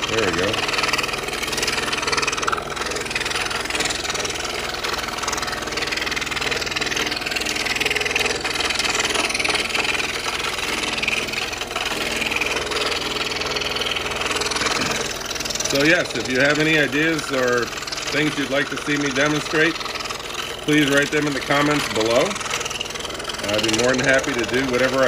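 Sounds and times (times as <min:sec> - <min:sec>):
scroll saw buzzing: 0:00.0 - 0:25.0.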